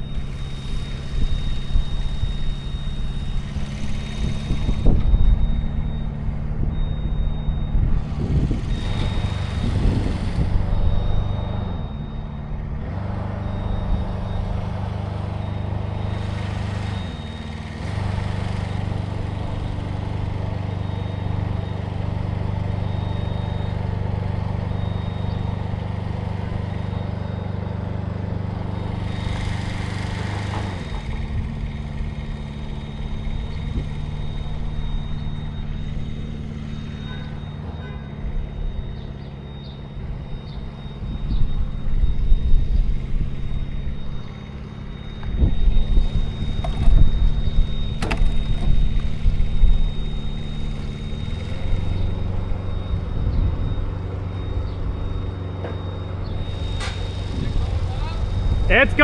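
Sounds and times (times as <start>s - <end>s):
faint high beep: 0.0s - 59.0s
large engine running: 0.0s - 59.0s.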